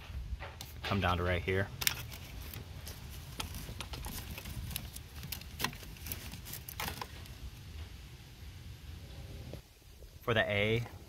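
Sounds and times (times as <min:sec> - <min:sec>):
low steady rumble: 0:01.5 - 0:11.0.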